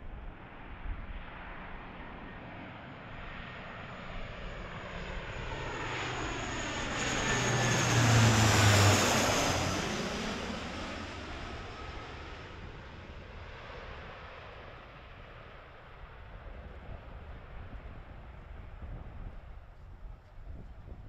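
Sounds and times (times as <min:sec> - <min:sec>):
low propeller drone: 0:00.0 - 0:21.0.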